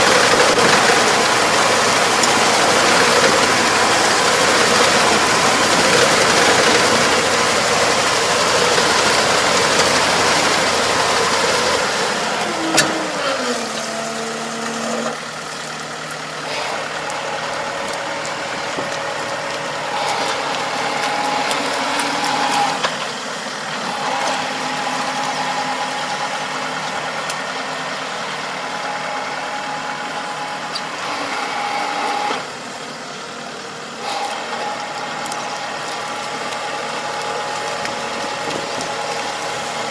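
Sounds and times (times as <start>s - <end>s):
farm machine engine: 0.0s - 39.9s.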